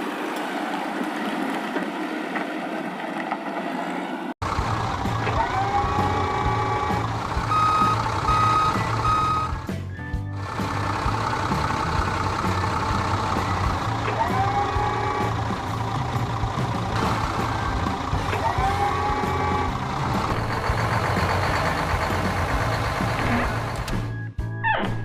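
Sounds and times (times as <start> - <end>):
truck engine running: 0.0 - 24.2.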